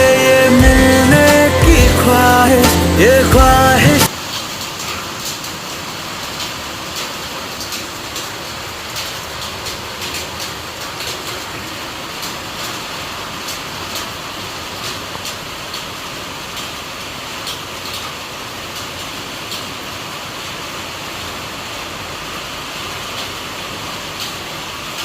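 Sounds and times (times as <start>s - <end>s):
rain hissing: 0.0s - 25.0s
raindrops hitting: 0.0s - 25.0s.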